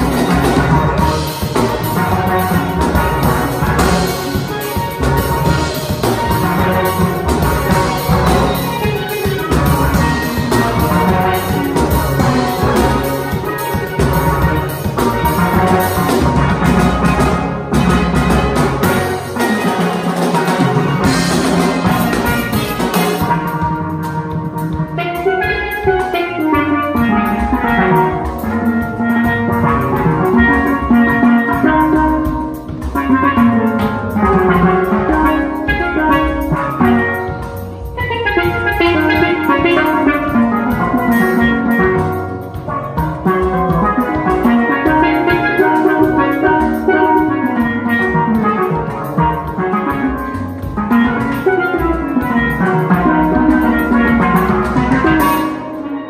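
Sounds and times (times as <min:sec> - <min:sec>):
cymbals: 0:00.0 - 0:56.0
drum kit beat: 0:00.0 - 0:56.0
steelpans playing calypso: 0:00.0 - 0:56.0.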